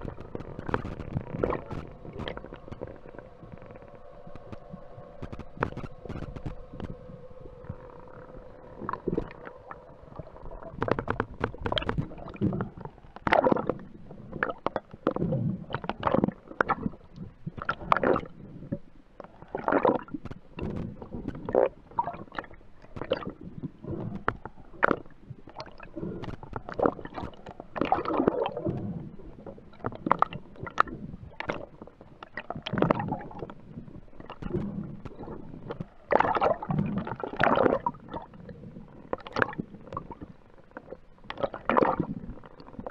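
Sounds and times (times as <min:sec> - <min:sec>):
gurgling water: 0:00.0 - 0:42.9
underwater knocks and clicks: 0:00.0 - 0:42.9.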